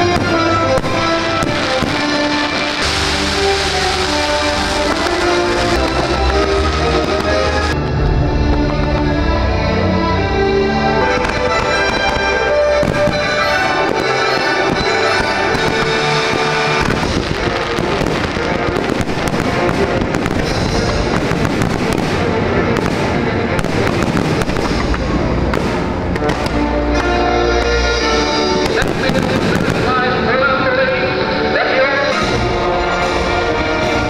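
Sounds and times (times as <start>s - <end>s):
fireworks crackling: 0.0s - 9.8s, 10.8s - 31.3s
music soundtrack: 0.0s - 34.0s.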